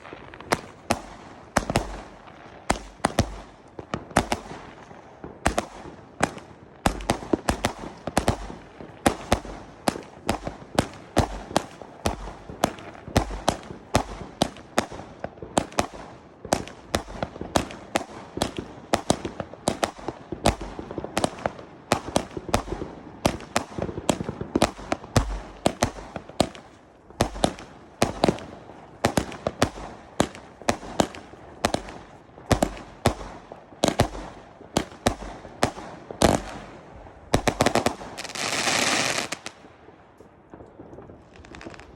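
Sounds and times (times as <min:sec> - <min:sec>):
fireworks banging: 0:00.0 - 0:41.9.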